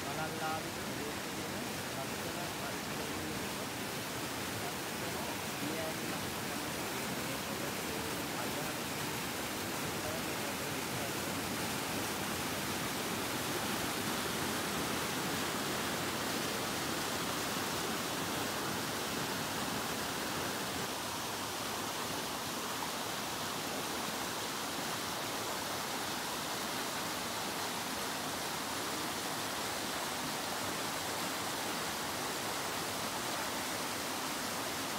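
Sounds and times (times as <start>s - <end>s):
stream rushing over boulders: 0.0s - 34.9s.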